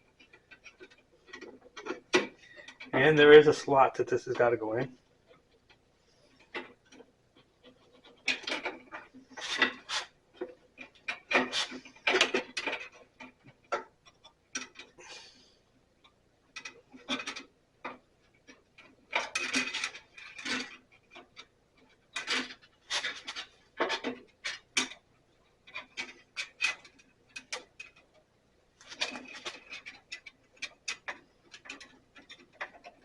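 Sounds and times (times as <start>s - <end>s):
metallic clicks taps and scrapes: 0.0s - 3.1s, 4.3s - 33.0s.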